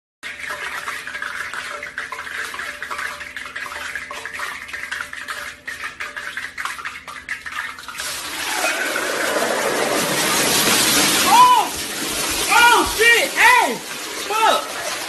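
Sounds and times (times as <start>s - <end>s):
hot oil crackling and popping: 0.2s - 14.3s
fries sizzling in oil: 0.2s - 15.0s.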